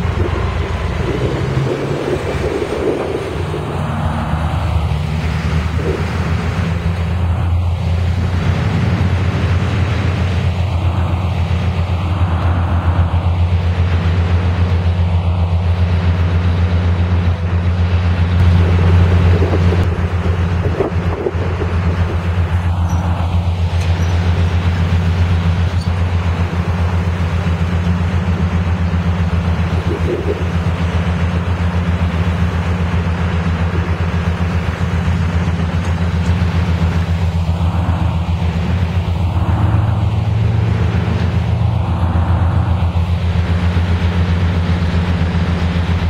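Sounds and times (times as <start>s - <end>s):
heavy vehicle engines droning: 0.0s - 46.0s.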